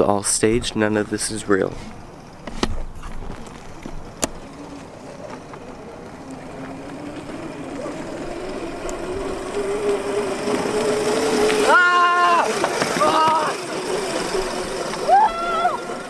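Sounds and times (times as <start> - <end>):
electric scooter motor whining: 0.0 - 16.0.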